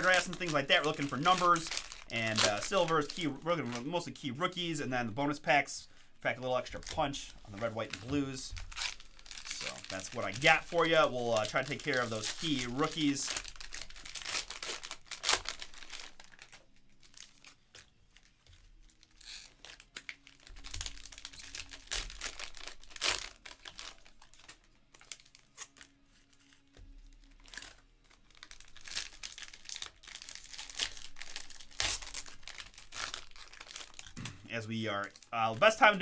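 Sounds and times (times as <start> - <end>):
card pack wrappers crinkling and tearing: 0.0 - 36.0.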